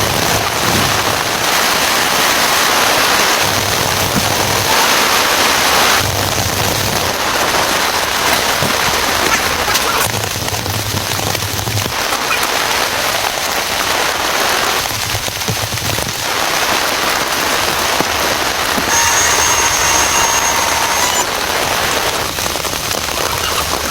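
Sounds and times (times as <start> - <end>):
heavy rain pouring: 0.0 - 23.9.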